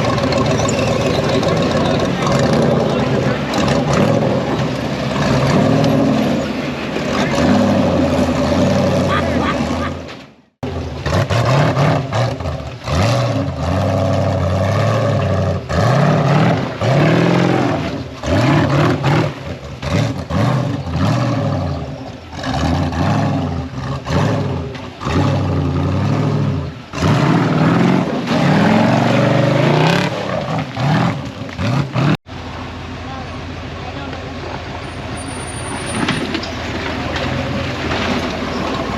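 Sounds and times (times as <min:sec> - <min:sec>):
engine revving: 0:00.0 - 0:32.3.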